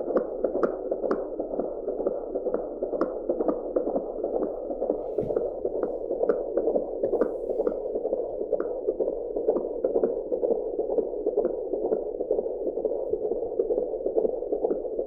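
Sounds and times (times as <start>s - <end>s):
fetal heartbeat on doppler: 0.0s - 15.0s.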